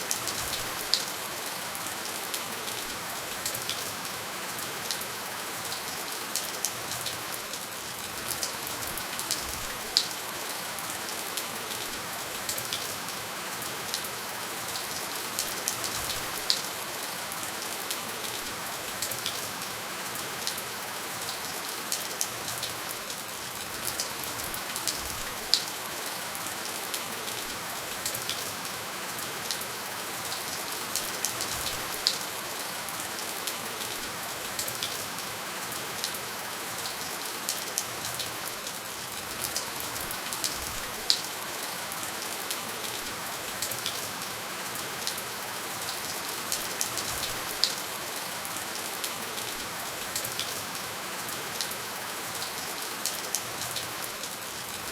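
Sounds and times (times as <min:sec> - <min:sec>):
gentle rain hiss: 0:00.0 - 0:54.9.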